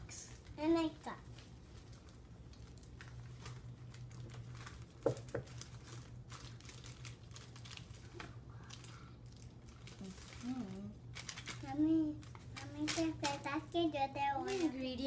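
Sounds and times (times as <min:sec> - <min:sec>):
steady low hum: 0:00.0 - 0:15.0
bag crinkling: 0:01.2 - 0:13.5.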